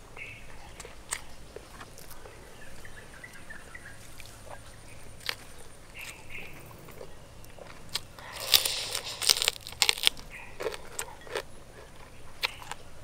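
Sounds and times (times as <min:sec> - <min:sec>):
crunching of fried fish being chewed: 0:00.2 - 0:13.0.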